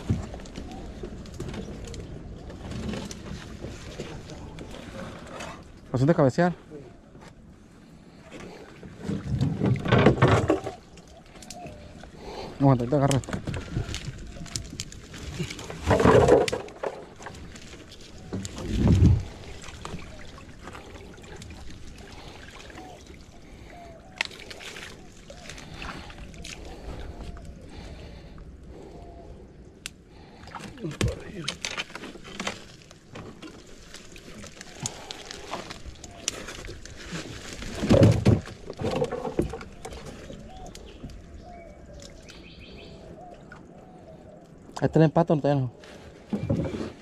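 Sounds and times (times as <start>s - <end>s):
branches and leaves rustling: 0.0s - 47.0s
water trickling and lapping: 0.0s - 47.0s.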